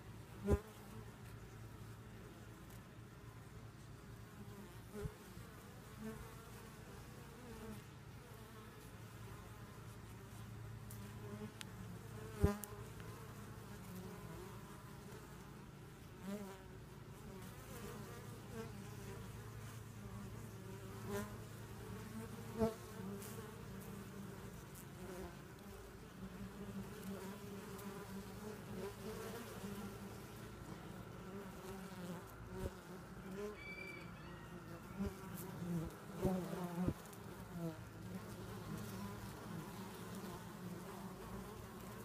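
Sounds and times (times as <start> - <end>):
honey bees buzzing: 4.5 - 42.0.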